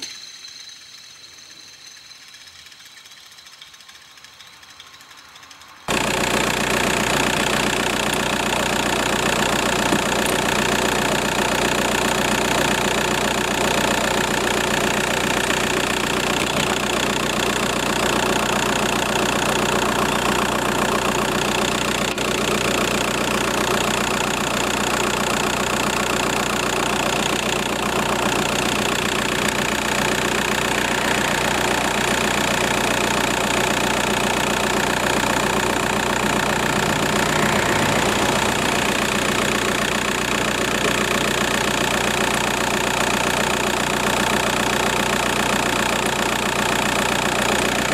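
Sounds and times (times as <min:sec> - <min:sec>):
diesel engine idling: 0:05.1 - 0:47.9.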